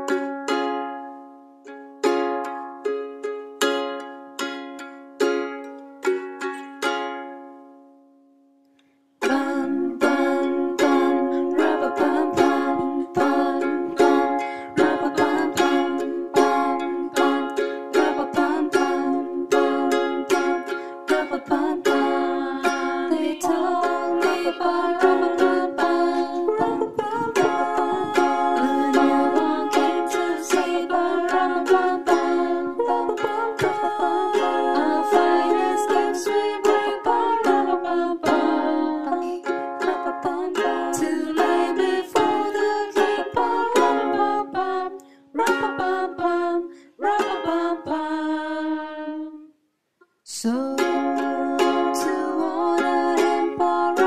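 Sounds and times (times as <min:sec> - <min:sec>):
ukulele strumming: 0:00.0 - 0:08.3, 0:09.2 - 0:49.5, 0:50.4 - 0:54.0
people singing a carol: 0:09.2 - 0:49.5, 0:50.9 - 0:54.0.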